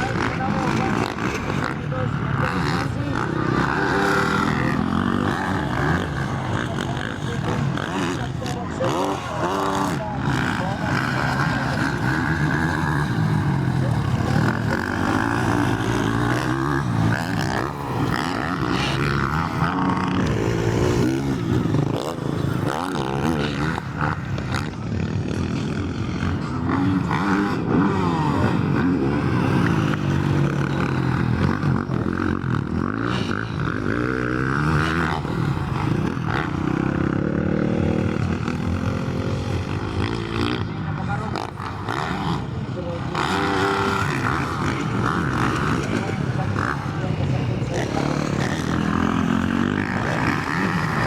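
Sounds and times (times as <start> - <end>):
motocross bikes revving: 0.0 - 51.0.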